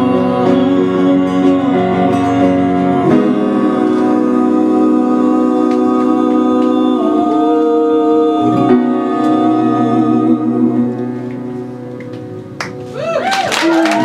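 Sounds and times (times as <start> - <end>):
voices singing held notes: 0.0 - 11.8
acoustic guitar chords: 0.0 - 13.0
grand piano: 0.0 - 14.0.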